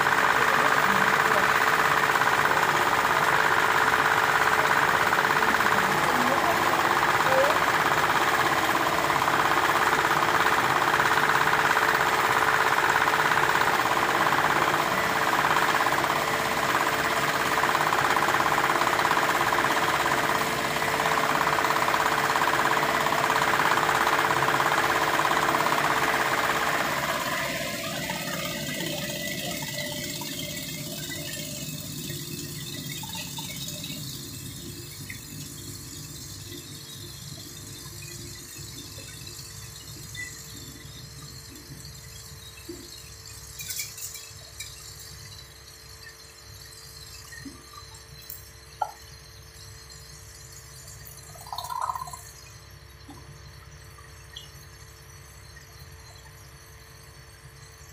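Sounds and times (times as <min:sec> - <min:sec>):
motor-driven machine running: 0:00.0 - 0:57.9.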